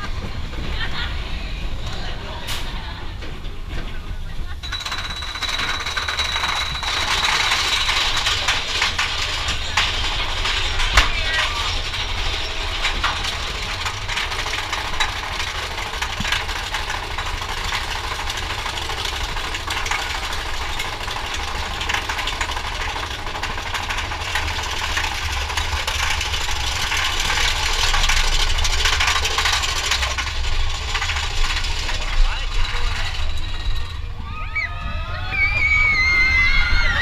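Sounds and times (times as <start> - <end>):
cars clattering and rattling: 0.0 - 34.3
roller coaster wheels rumbling: 0.0 - 37.0.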